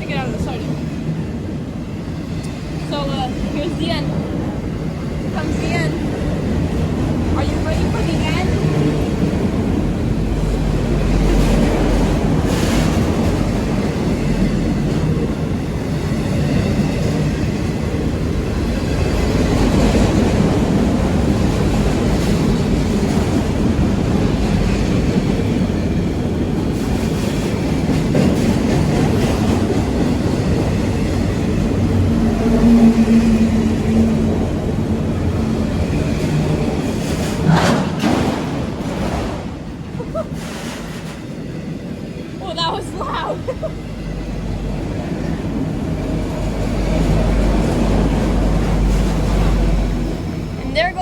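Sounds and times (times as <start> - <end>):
freight cars rumbling and clattering: 0.0 - 51.0.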